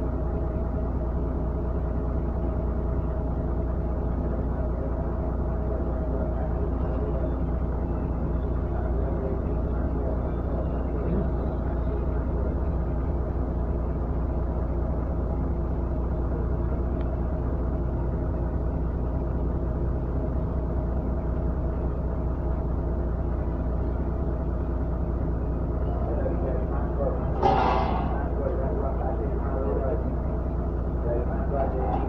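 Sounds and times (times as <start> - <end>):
motor running with low rumble: 0.0 - 32.0.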